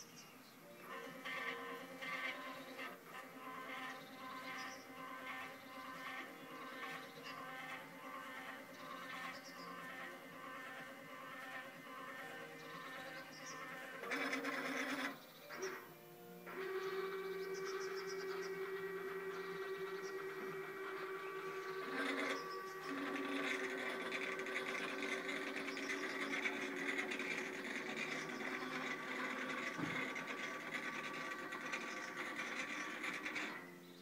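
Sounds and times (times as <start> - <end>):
motors whining: 0.0 - 34.0.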